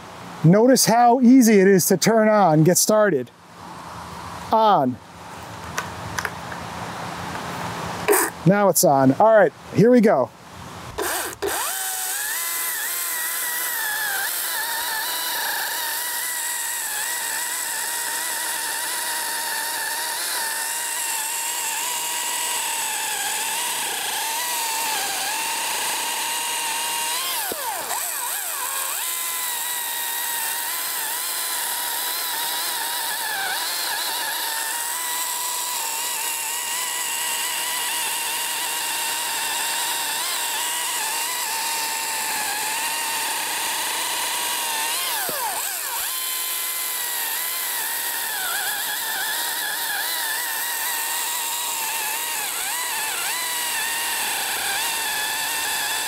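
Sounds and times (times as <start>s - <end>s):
chainsaw cutting through log: 8.0s - 8.4s, 10.9s - 56.0s.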